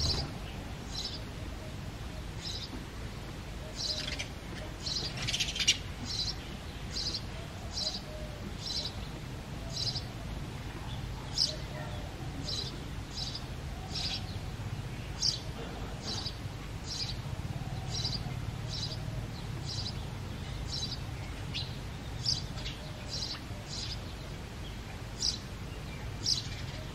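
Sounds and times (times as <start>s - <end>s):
sparrow chirping: 0.0s - 1.3s, 2.4s - 2.8s, 3.6s - 10.2s, 10.8s - 26.9s.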